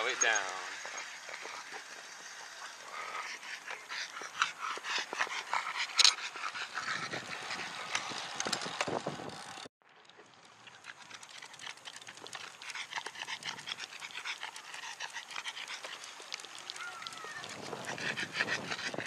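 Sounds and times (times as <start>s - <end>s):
dog panting rapidly: 0.1s - 8.7s, 10.9s - 19.0s.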